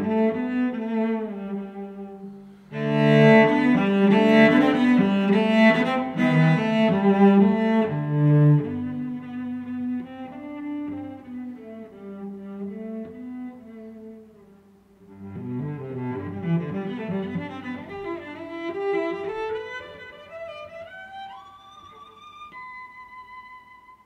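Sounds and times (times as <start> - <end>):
slow melody on bowed strings: 0.0 - 24.0.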